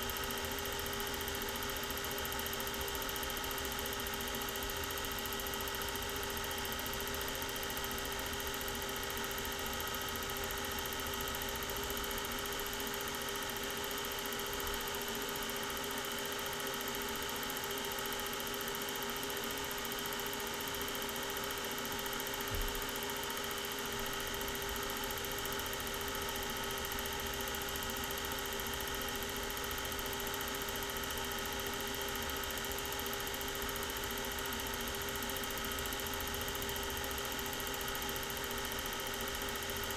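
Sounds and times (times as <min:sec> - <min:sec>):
film projector motor hum: 0:00.0 - 0:39.9.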